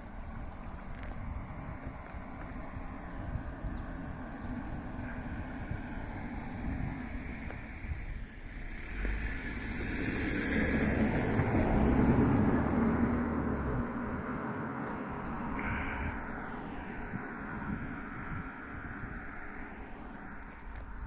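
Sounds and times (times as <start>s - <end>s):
vehicle passing with low rumble: 0.0s - 21.0s.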